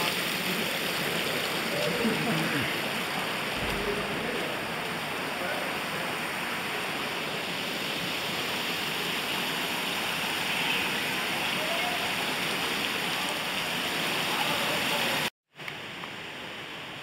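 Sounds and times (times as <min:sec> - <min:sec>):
creek water splashing over rocks: 0:00.0 - 0:16.3.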